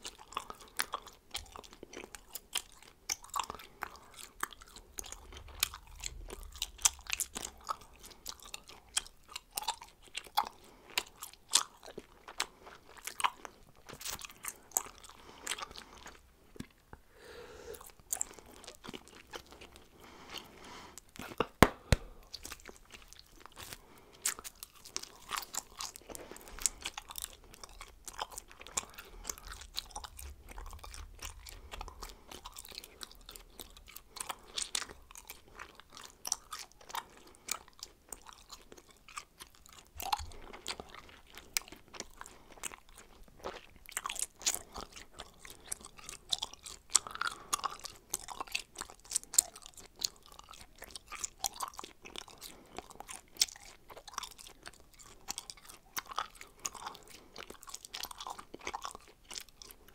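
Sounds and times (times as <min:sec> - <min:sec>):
person chewing gum: 0:00.0 - 0:59.9.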